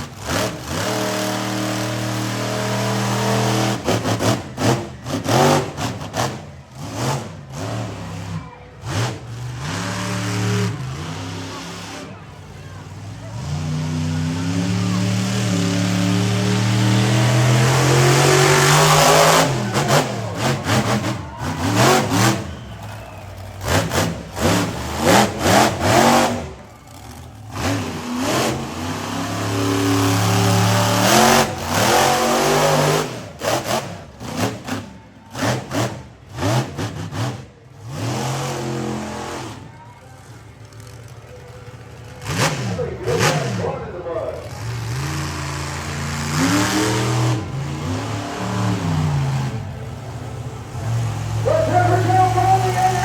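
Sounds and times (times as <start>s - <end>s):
truck engine revving: 0.0s - 53.0s.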